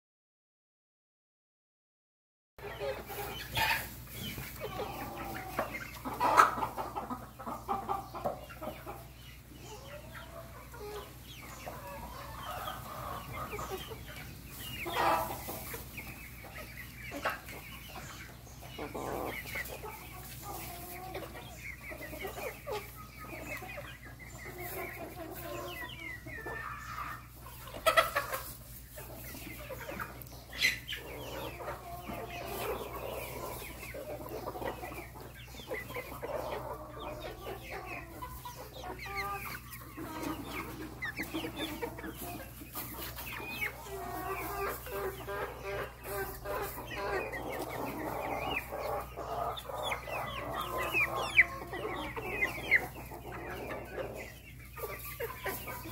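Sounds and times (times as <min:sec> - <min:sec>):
chickens clucking: 0:02.6 - 0:55.9.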